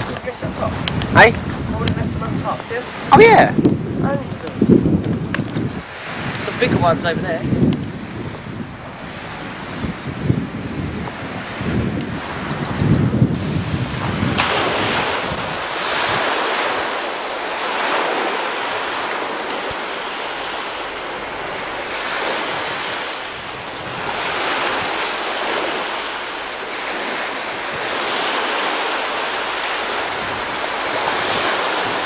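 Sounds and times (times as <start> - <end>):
waves washing onto shingle: 0.0 - 32.0.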